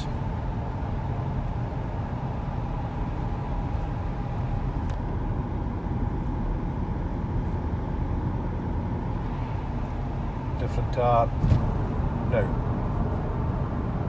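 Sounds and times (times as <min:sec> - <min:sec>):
low road rumble in car cabin: 0:00.0 - 0:14.0.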